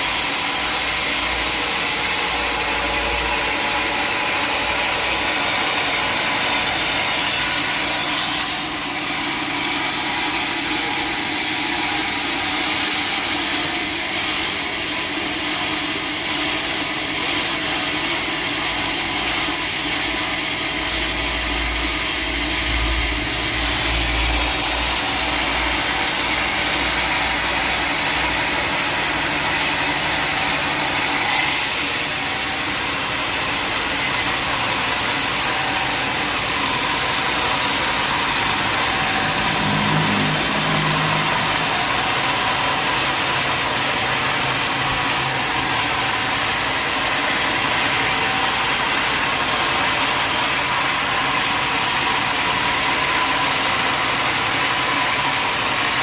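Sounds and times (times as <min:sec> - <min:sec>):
bandsaw sawing through log: 0:00.0 - 0:56.0.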